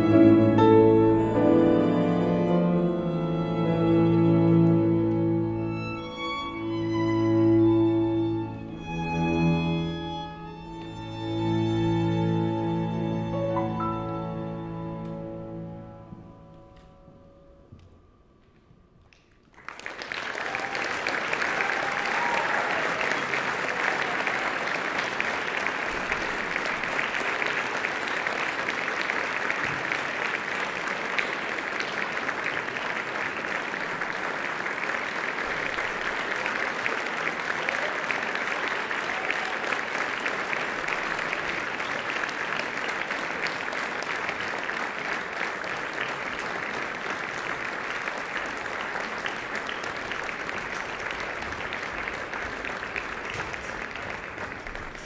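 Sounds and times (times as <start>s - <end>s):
audience applauding: 0.0s - 14.1s, 19.0s - 55.0s.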